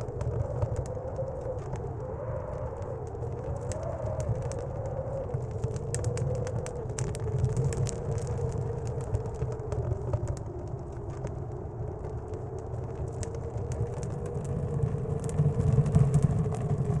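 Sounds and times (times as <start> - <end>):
howling blizzard wind: 0.0 - 17.0
wood stove fire crackling: 0.0 - 17.0.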